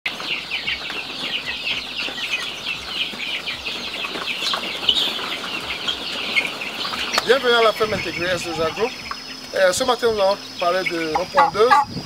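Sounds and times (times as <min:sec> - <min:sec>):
chicks peeping: 0:00.1 - 0:12.0.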